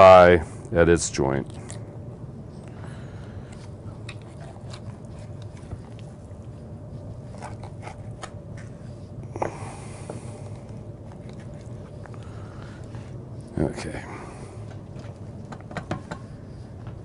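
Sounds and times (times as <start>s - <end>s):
steady room hum: 0.0s - 17.0s.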